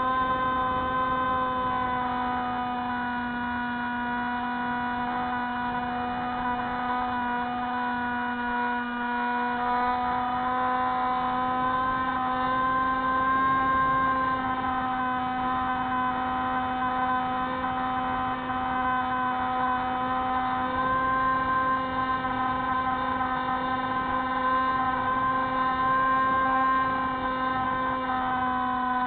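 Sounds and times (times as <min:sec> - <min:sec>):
model plane motor whine: 0:00.0 - 0:29.0.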